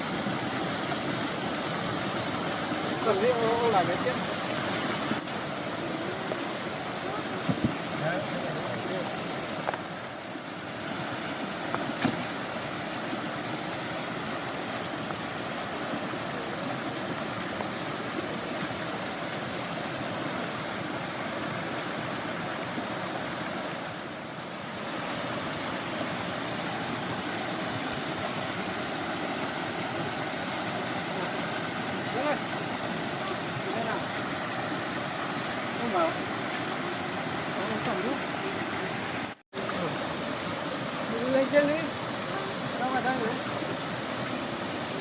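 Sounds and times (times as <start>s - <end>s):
stream water rushing: 0.0s - 45.0s.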